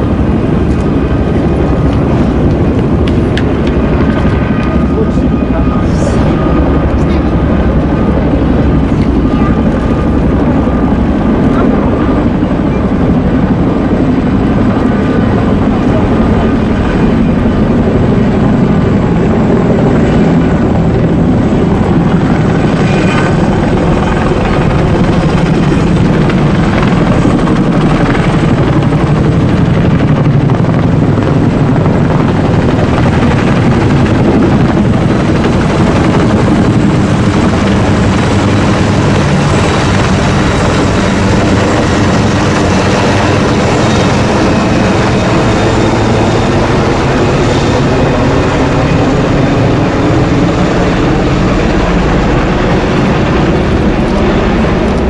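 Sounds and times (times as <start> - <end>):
helicopter flying past: 0.0 - 55.0.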